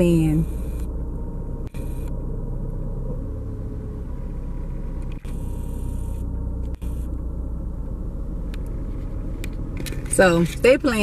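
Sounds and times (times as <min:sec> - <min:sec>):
car engine idling: 0:00.0 - 0:11.0
faint steady hum: 0:00.0 - 0:11.0.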